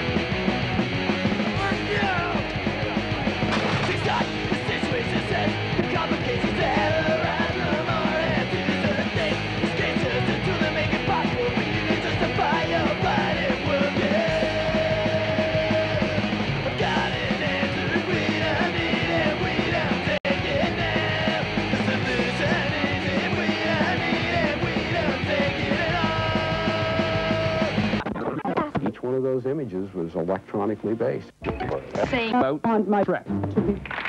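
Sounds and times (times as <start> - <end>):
punk rock music: 0.0 - 28.7.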